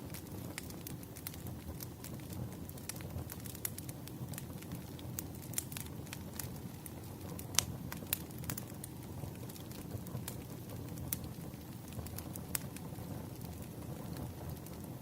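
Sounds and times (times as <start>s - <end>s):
firewood crackling and popping: 0.0s - 15.0s
low fire rumble: 0.0s - 15.0s.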